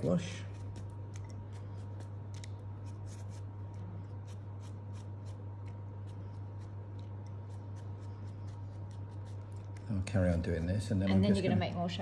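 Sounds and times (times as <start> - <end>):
pastry brush swishing: 0.3 - 9.9.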